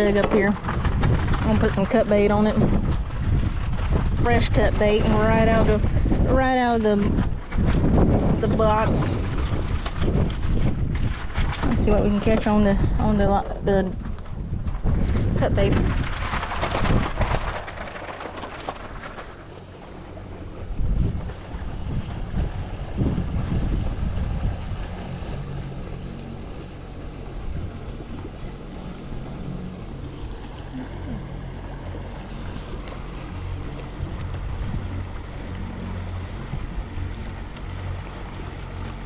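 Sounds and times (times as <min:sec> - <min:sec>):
low steady hum: 0:00.0 - 0:39.0
wind buffeting microphone: 0:00.0 - 0:39.0.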